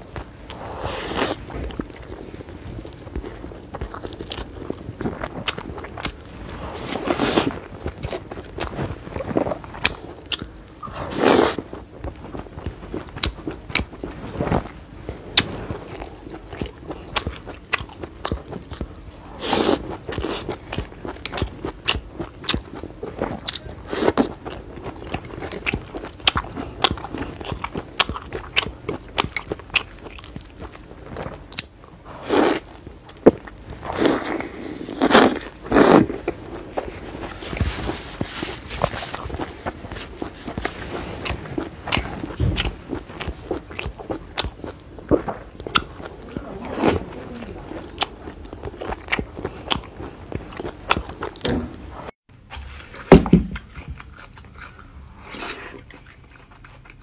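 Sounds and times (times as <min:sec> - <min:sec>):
person chewing fried food: 0:00.0 - 0:52.2, 0:53.6 - 0:57.0.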